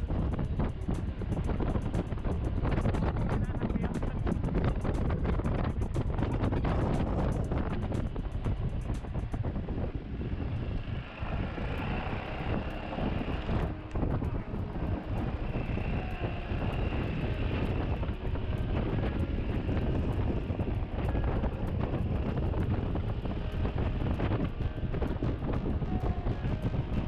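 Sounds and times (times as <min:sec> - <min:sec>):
motorbike engine rumble: 0:00.0 - 0:27.0
wind buffeting microphone: 0:00.0 - 0:27.0.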